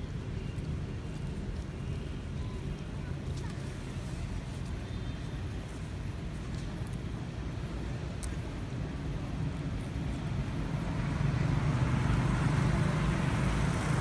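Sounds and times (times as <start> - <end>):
passing motor vehicle rumble: 0.0 - 14.0.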